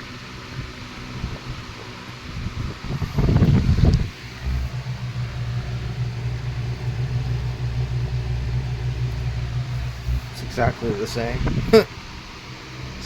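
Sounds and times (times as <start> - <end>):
fan motor hum: 2.4 - 13.0.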